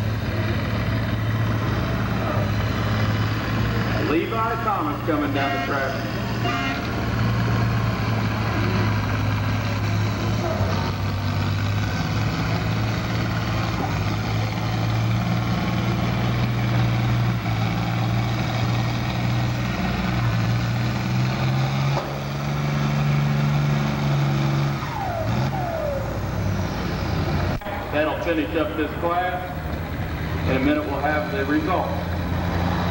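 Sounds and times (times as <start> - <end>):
tractor engine running and revving: 0.0 - 32.9.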